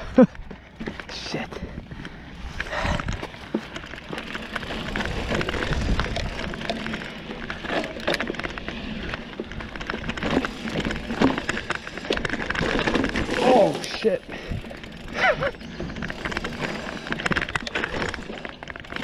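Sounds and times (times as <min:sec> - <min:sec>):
bike clicks and rattles: 0:00.0 - 0:19.0
bike tyres rolling over dirt: 0:00.0 - 0:19.0.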